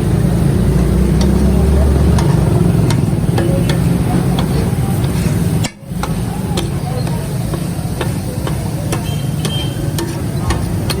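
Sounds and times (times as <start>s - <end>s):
background voices: 0.0s - 11.0s
steady low rumble: 0.0s - 11.0s
sharp knocks: 0.8s - 11.0s.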